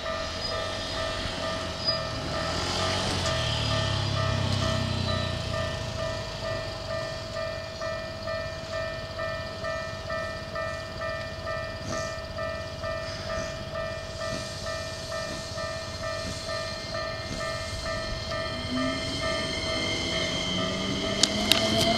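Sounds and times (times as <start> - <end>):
level crossing alarm ringing: 0.0 - 21.9
train running noise: 0.0 - 21.9.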